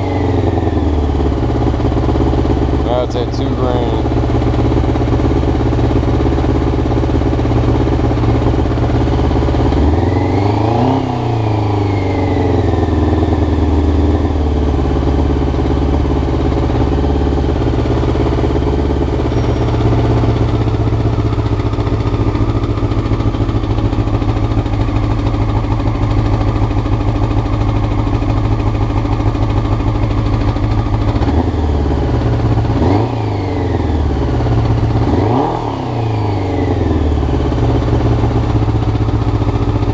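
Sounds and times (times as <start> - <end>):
motorcycle engine idling roughly: 0.0 - 39.9.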